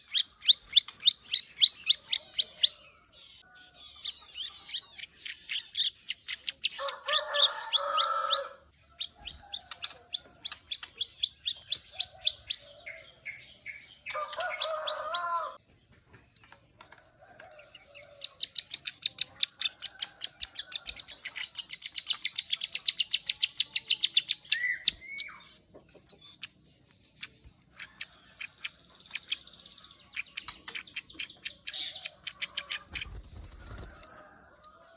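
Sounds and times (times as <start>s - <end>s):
bird high-pitched clicking song: 0.0s - 2.8s, 4.1s - 15.4s, 16.4s - 34.2s.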